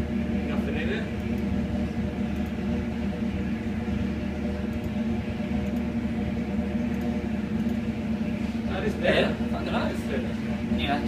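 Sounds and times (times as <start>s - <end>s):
steady mechanical engine hum: 0.0s - 11.0s.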